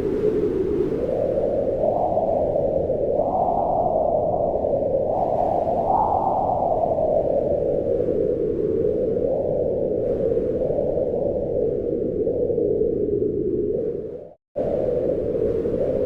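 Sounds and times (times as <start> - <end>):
wind blowing in gusts: 0.0 - 16.0.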